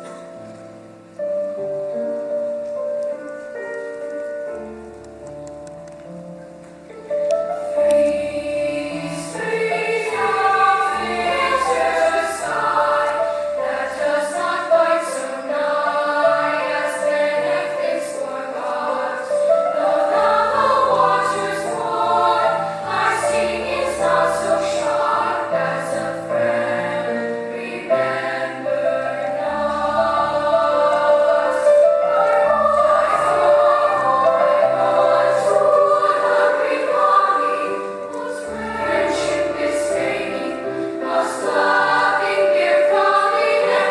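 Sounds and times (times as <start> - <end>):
piano accompaniment: 0.0 - 43.9
choir singing: 7.3 - 43.9.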